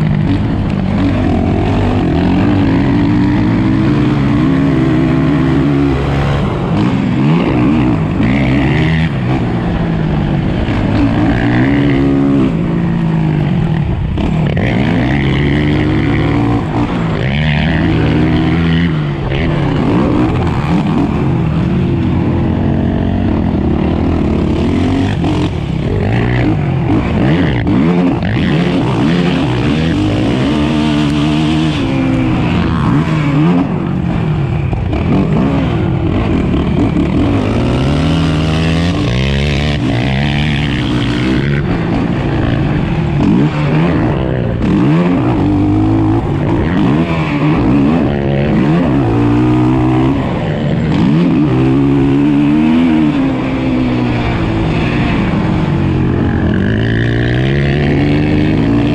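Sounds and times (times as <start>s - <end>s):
quad engine revving: 0.0s - 58.9s.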